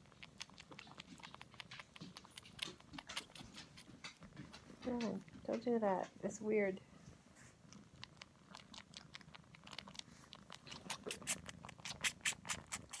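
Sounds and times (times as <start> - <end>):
kitten sucking on paw: 0.0 - 6.2, 7.1 - 13.0.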